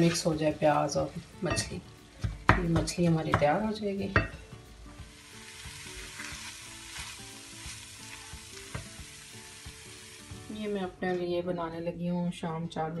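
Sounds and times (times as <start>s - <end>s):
food sizzling in a pan: 0.0s - 11.1s.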